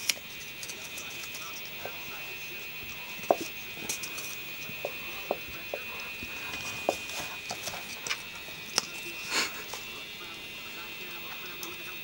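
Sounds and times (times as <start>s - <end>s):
puppies chewing on wood: 0.0s - 12.0s.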